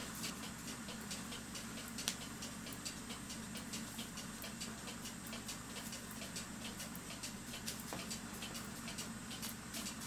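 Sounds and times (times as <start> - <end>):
mechanical clock ticking: 0.0 - 10.0.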